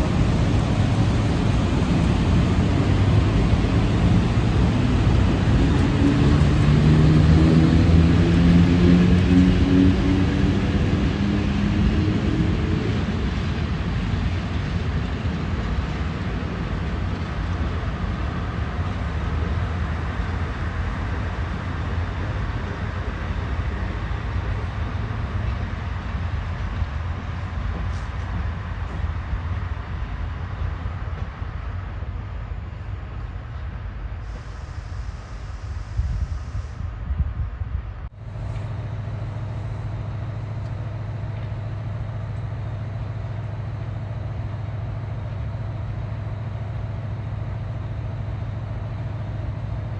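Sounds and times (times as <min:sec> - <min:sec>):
electric locomotive low rumble: 0:00.0 - 0:49.9.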